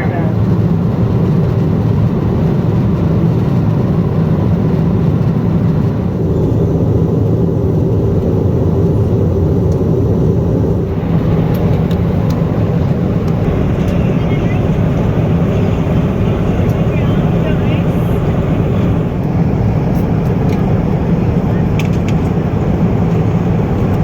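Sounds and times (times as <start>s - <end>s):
jet airliner cabin noise: 0.0s - 24.0s.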